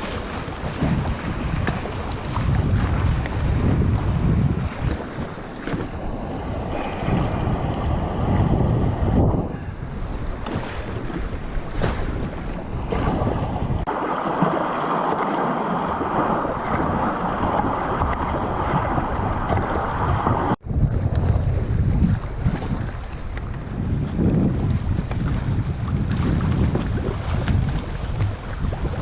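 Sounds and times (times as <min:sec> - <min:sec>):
sea waves: 0:00.0 - 0:20.6, 0:21.4 - 0:29.0
wind buffeting microphone: 0:00.0 - 0:29.0.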